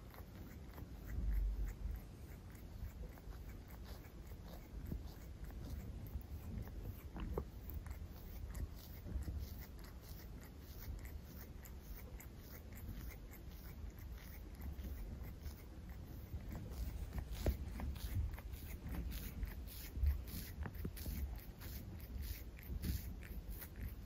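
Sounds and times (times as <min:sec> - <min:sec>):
cat chewing food: 0:00.0 - 0:24.0.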